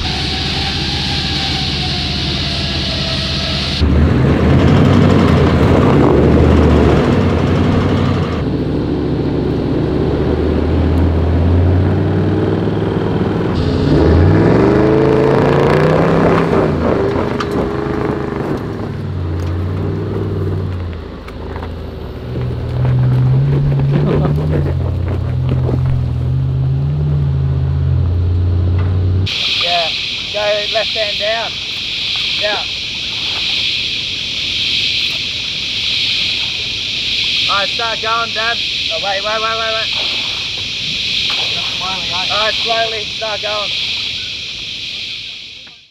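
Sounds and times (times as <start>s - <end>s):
off-road vehicle engines revving: 0.0s - 45.4s.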